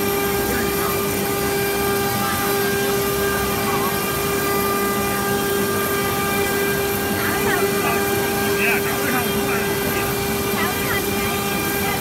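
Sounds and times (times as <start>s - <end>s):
router spindle whine: 0.0s - 12.0s.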